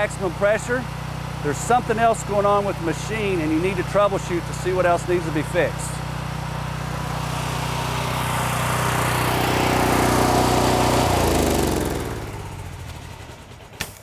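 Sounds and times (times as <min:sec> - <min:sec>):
pressure washer engine running: 0:00.0 - 0:13.8.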